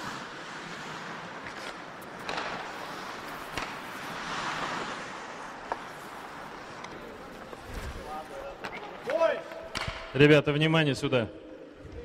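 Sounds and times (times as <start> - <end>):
skate blades scraping ice: 0.0 - 9.9
hockey sticks and puck clacking: 0.0 - 10.4.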